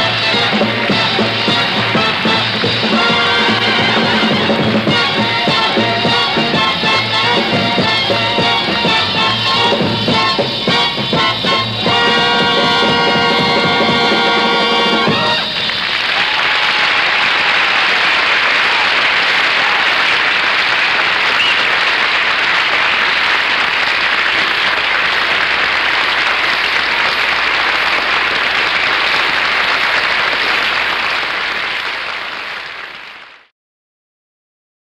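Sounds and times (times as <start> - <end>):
audience applauding: 0.0 - 33.5.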